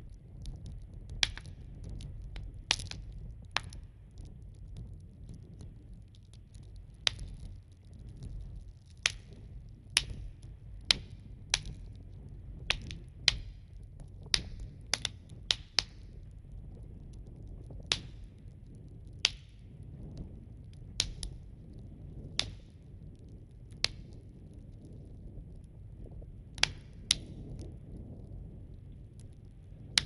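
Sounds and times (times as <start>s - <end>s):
fire crackling and popping: 0.0s - 30.0s
low steady rumble: 0.0s - 30.0s.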